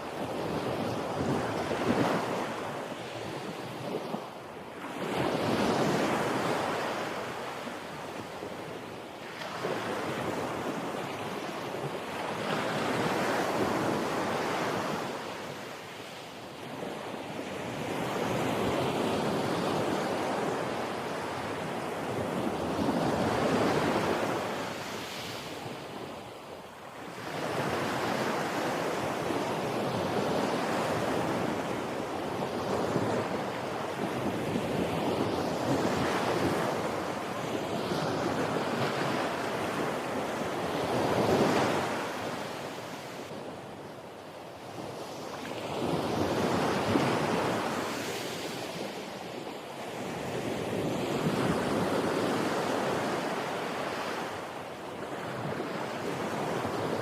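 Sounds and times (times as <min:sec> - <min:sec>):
waves washing in and out: 0:00.0 - 0:57.0.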